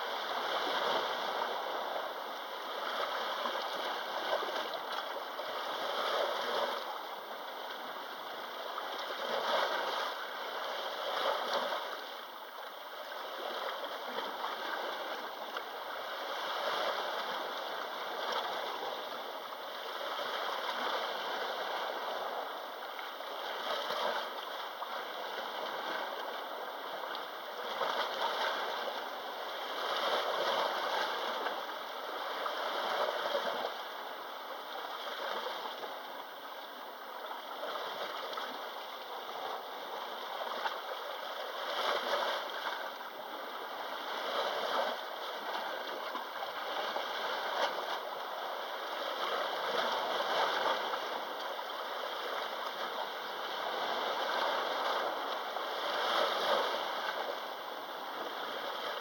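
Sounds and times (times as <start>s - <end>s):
small waves washing ashore: 0.0s - 59.0s.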